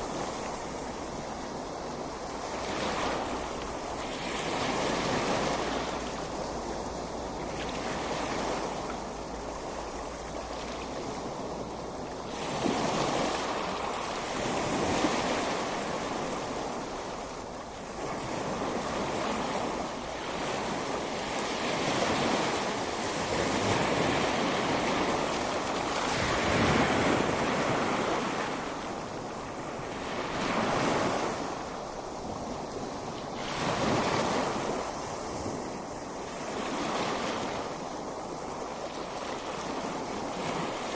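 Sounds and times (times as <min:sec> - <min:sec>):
ocean waves breaking on beach: 0:00.0 - 0:40.9
wind: 0:00.0 - 0:40.9.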